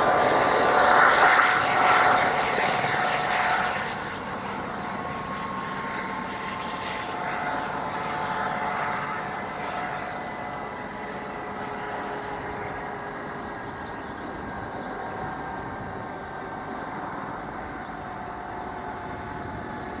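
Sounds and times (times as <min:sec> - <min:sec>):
helicopter rotor rushing: 0:00.0 - 0:20.0
helicopter turbine whine: 0:00.0 - 0:20.0.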